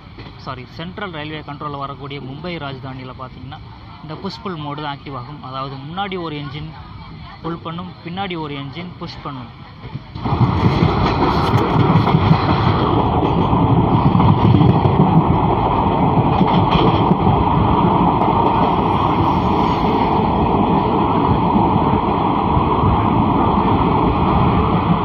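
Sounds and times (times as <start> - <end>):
train coaches rolling: 0.0 - 25.0
rush of wind: 1.2 - 25.0.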